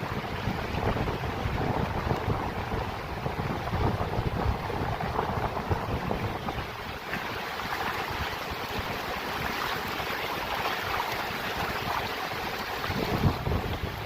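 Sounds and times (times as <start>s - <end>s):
mountain water rushing: 0.0s - 14.0s
wind gusting on microphone: 0.0s - 14.0s.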